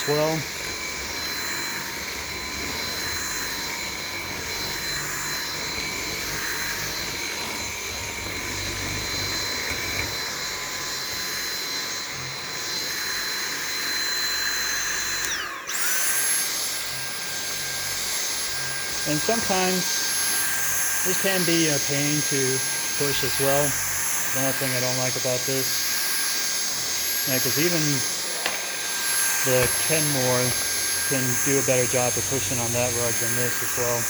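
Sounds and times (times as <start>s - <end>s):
cordless vacuum motor whine: 0.0s - 34.0s.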